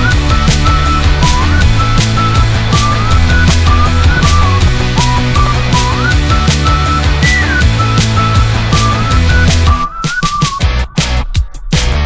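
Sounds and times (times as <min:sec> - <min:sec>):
high synth melody: 0:00.0 - 0:09.9
electronic music with fast drum beat: 0:00.0 - 0:12.0.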